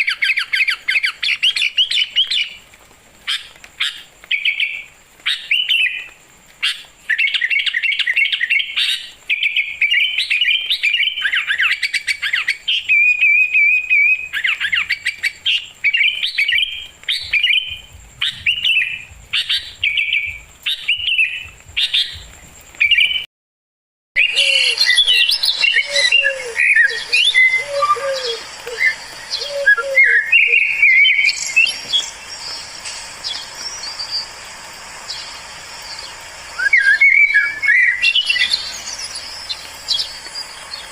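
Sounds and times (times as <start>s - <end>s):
songbirds chirping and trilling: 0.0s - 23.3s, 24.2s - 40.9s
steady hiss: 0.0s - 23.3s, 24.2s - 40.9s.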